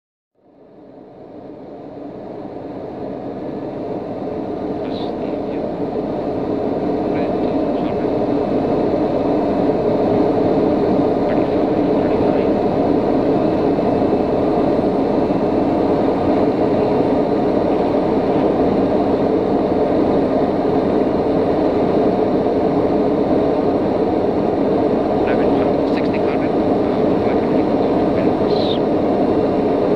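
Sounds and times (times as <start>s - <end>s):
turboprop cabin drone: 0.4s - 29.9s.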